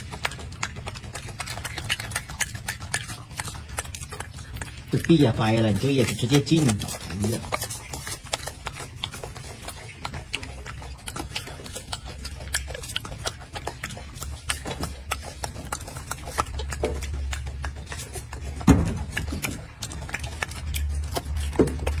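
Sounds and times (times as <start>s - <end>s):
monkey chewing clicks and smacks: 0.0s - 22.0s.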